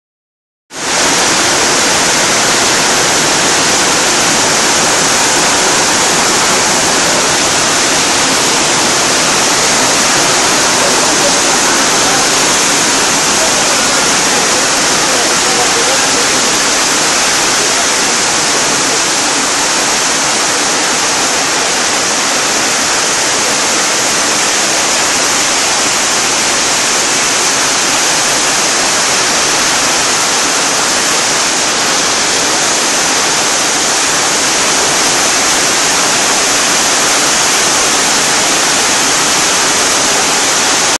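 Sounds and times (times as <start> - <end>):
heavy rain pouring: 0.7 - 40.9.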